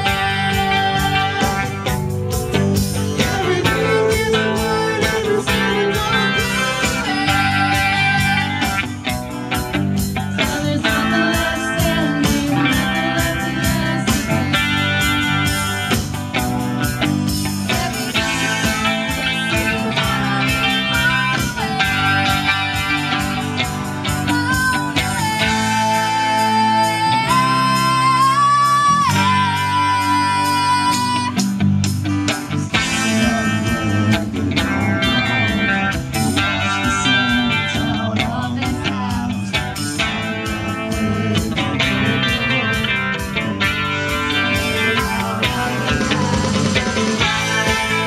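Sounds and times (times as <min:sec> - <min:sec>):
drum kit beat: 0:00.0 - 0:48.0
electric bass: 0:00.0 - 0:48.0.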